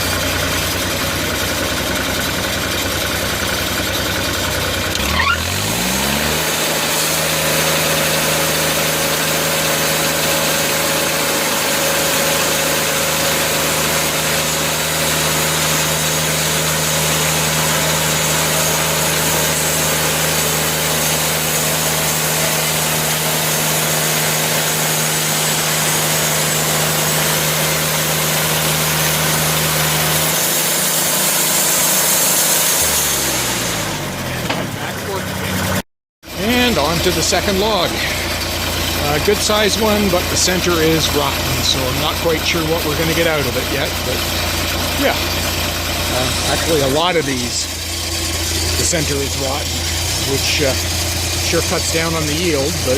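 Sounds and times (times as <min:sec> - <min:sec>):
saw cutting a log: 0:00.0 - 0:52.9
sawmill engine revving: 0:00.0 - 0:52.9.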